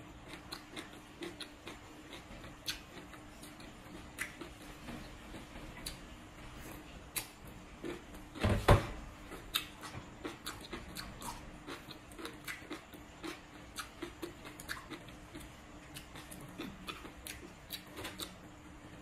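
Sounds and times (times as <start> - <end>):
crunchy chewing: 0.1 - 19.0.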